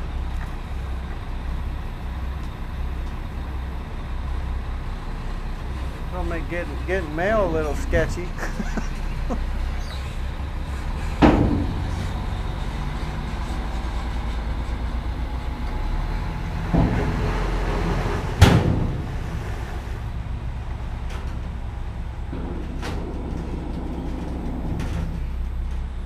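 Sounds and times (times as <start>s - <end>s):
dump truck diesel engine: 0.0s - 26.0s.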